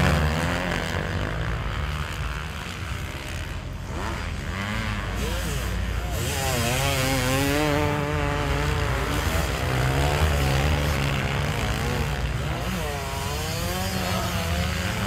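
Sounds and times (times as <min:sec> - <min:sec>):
dirt bike engines revving: 0:00.0 - 0:15.0
dirt bike passing close: 0:00.0 - 0:15.0.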